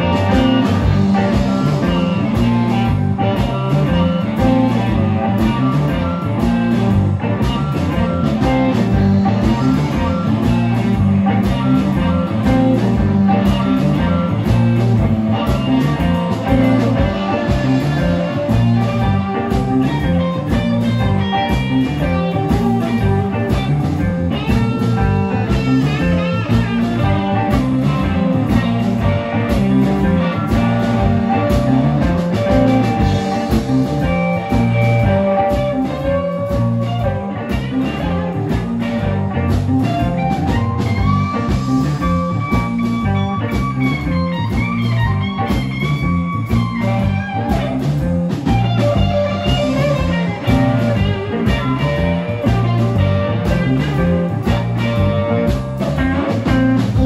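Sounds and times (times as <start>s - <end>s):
drum and bass groove: 0.0s - 57.0s
lead electric guitar: 0.0s - 57.0s.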